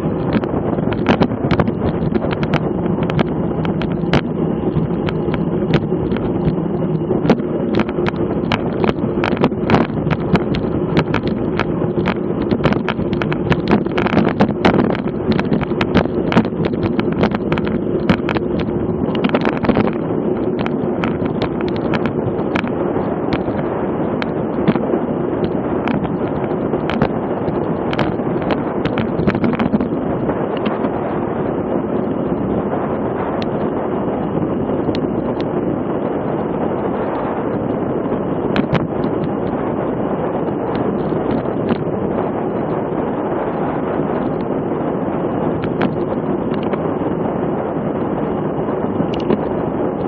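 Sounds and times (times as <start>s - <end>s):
low hum: 0.0s - 50.0s
wind rushing over microphone: 0.0s - 50.0s.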